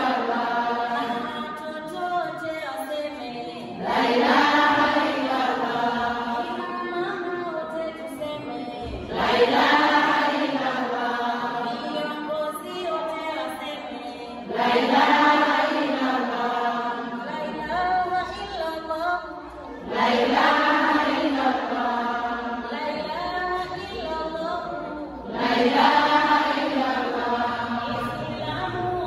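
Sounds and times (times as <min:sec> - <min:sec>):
group chanting in unison: 0:00.0 - 0:01.5, 0:03.5 - 0:07.0, 0:08.7 - 0:18.1, 0:19.7 - 0:29.0.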